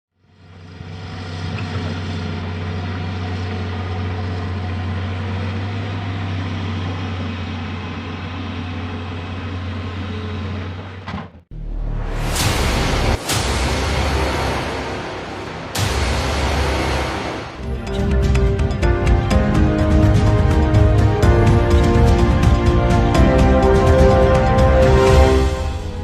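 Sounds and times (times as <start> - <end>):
heavy diesel engine running: 0.2 - 26.0.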